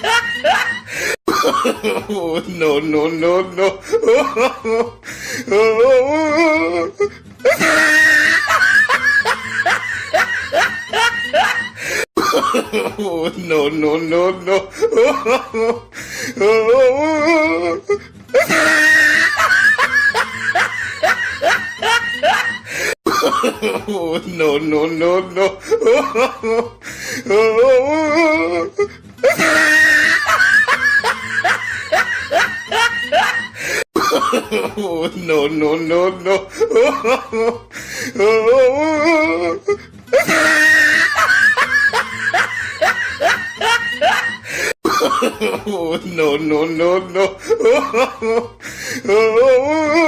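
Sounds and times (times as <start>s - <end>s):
person laughing hysterically: 0.0s - 50.0s.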